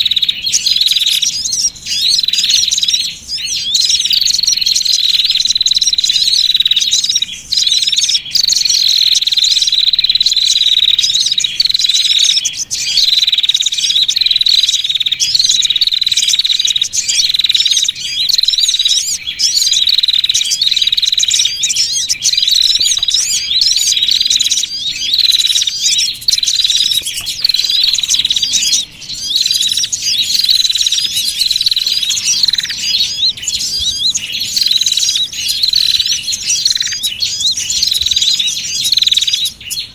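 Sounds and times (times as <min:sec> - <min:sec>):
sharp bird call: 0:00.0 - 0:39.9
songbirds twittering: 0:00.0 - 0:39.9.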